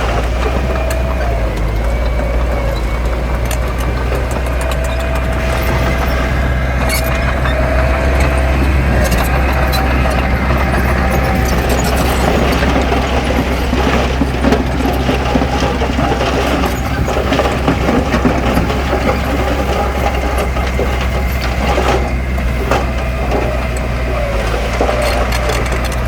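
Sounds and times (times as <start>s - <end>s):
clattering and crunching: 0.0s - 26.0s
diesel machinery engine drone: 0.0s - 26.0s.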